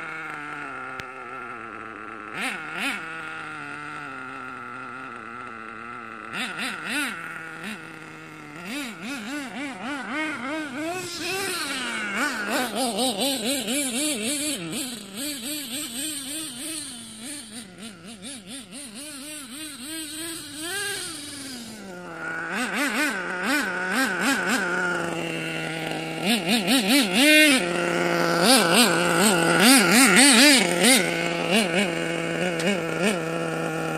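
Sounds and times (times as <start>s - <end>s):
small engine revving: 0.0s - 33.9s.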